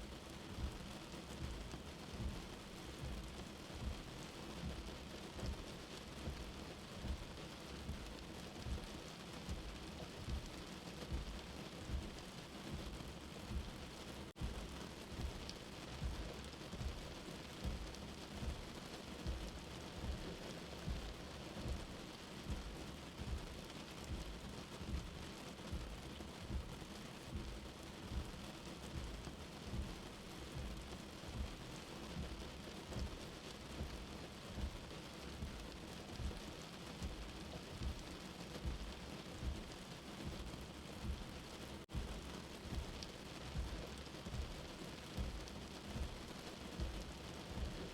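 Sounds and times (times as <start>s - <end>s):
soft low heartbeat: 0.0s - 47.9s
steady rain heard from indoors: 0.0s - 47.9s.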